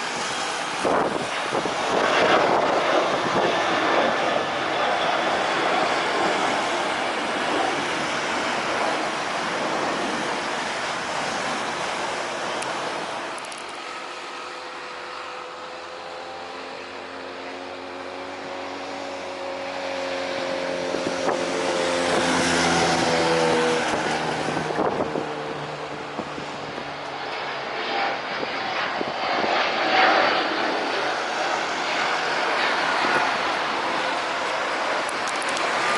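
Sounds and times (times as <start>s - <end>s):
jet engine rush: 0.0s - 35.9s
jet engine whine: 0.0s - 35.9s.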